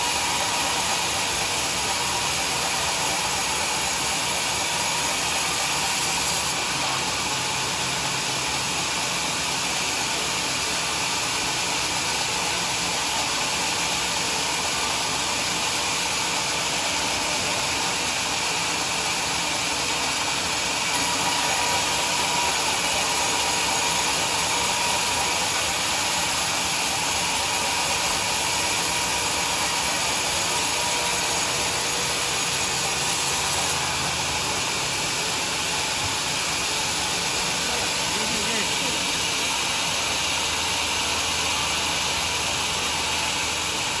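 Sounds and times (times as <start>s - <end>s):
sawmill saw running: 0.0s - 44.0s.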